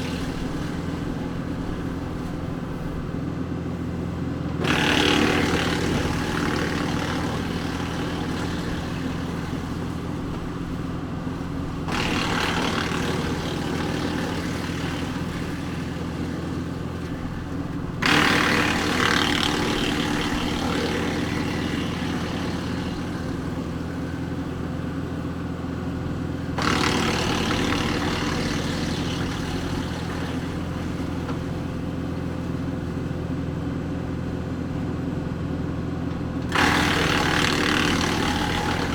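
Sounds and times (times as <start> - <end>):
tractor diesel engine running: 0.0 - 38.9
wood chipper shredding branches: 0.0 - 38.9.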